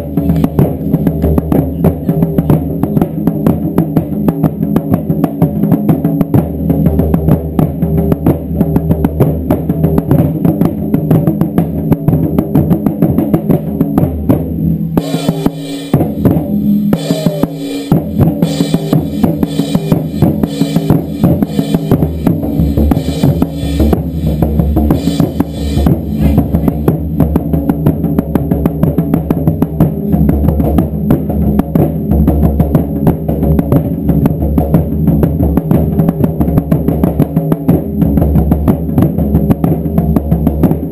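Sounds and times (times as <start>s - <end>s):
sharp rapid drum strikes: 0.0s - 40.9s
taiko drums pounding: 0.0s - 40.9s.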